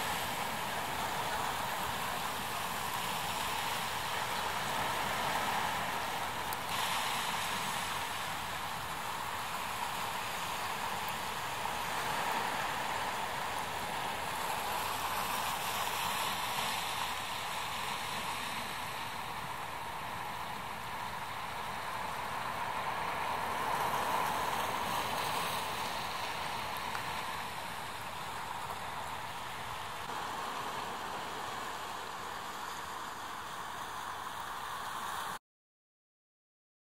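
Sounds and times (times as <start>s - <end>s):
surf breaking on rocky shore: 0.0s - 35.4s.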